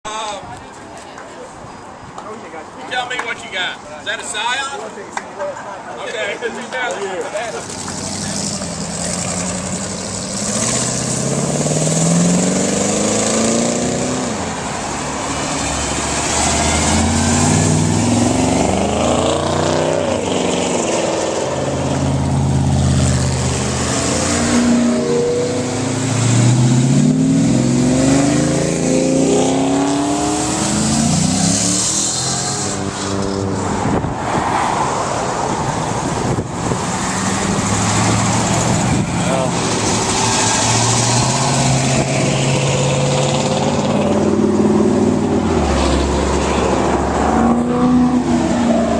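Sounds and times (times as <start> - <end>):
car engine revving: 7.6 - 48.9.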